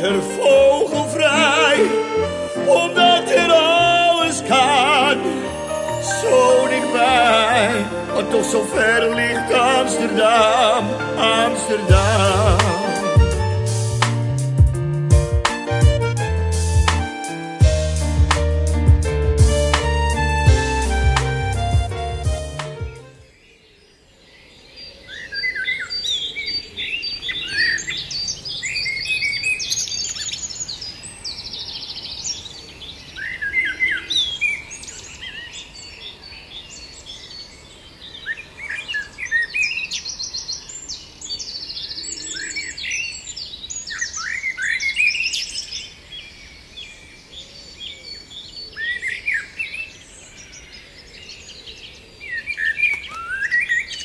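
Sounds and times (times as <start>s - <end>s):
songbirds chirping and trilling: 0.0s - 13.2s, 22.6s - 54.0s.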